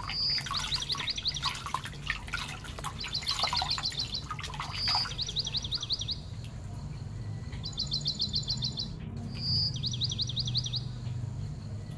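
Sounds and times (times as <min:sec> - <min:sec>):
low steady hum: 0:00.0 - 0:11.9
small bird chirping trills: 0:00.0 - 0:11.9.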